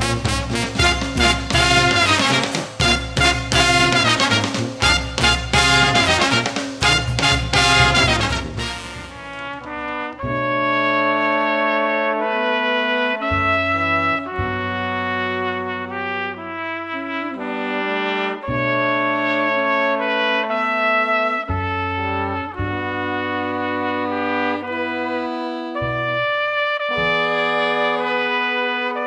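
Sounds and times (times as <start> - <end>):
brass band playing: 0.0 - 29.0.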